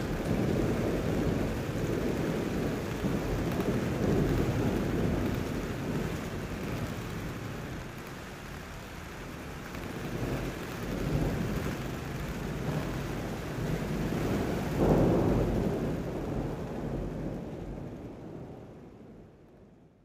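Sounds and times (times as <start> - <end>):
rumbling thunder with rain: 0.0 - 20.0.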